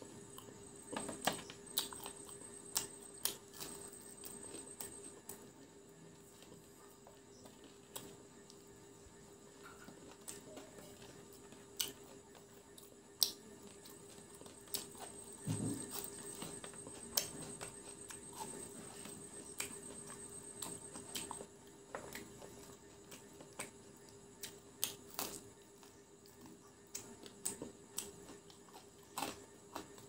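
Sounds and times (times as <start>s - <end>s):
chewing and crunching: 0.0s - 30.0s
faint steady hum: 0.0s - 30.0s.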